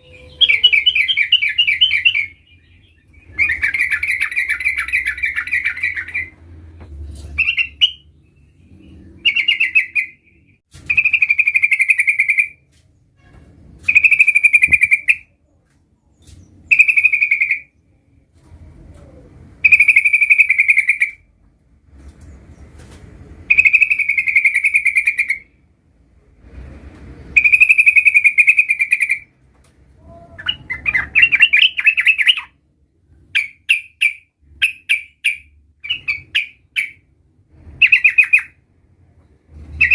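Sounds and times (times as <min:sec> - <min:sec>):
bird chirping: 0:00.0 - 0:18.0, 0:19.0 - 0:21.3, 0:23.4 - 0:25.6, 0:27.3 - 0:29.4, 0:30.0 - 0:32.6, 0:33.2 - 0:38.6, 0:39.2 - 0:39.9.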